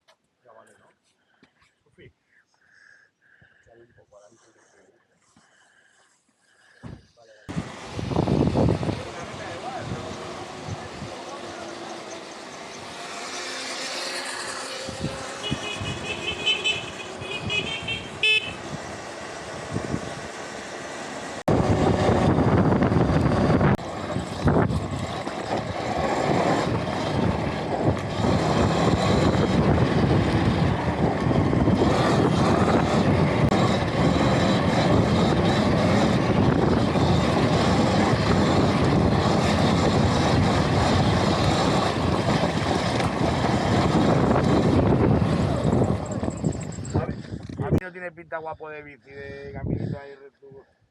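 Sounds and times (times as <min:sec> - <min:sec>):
wind and drivetrain noise: 0:06.5 - 0:47.8.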